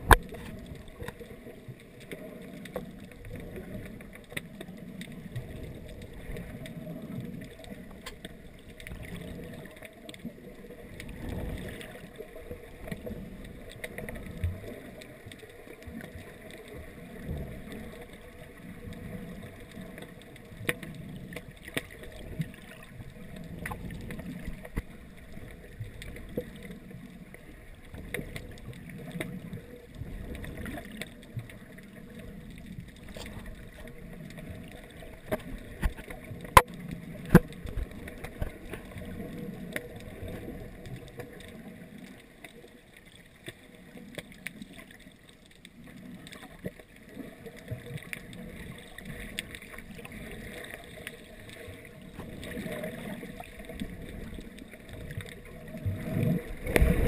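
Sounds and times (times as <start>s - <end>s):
faint clicks: 0.0s - 57.0s
underwater wash of water: 0.0s - 57.0s.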